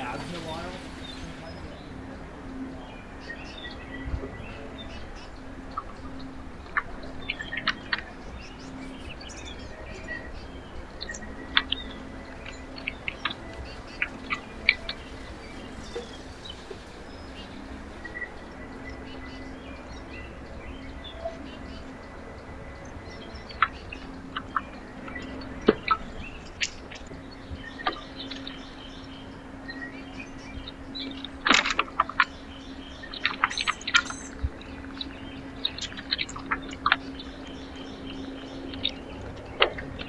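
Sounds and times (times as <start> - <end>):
low background hum: 0.0 - 40.0
songbirds chip calls: 0.0 - 40.0.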